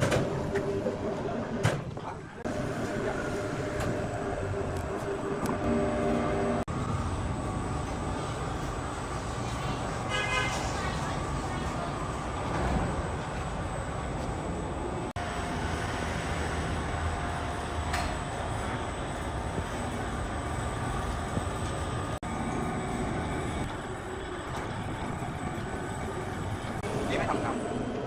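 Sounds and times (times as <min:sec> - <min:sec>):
crane mechanical rumble: 0:00.0 - 0:28.0.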